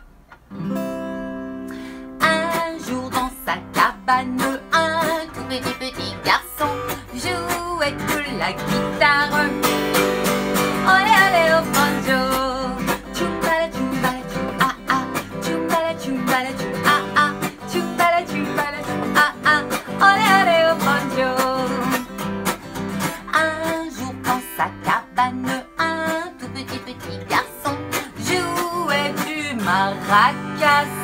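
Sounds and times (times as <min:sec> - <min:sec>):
acoustic guitar strumming: 0:00.0 - 0:31.0
woman singing: 0:02.1 - 0:22.2, 0:22.8 - 0:31.0.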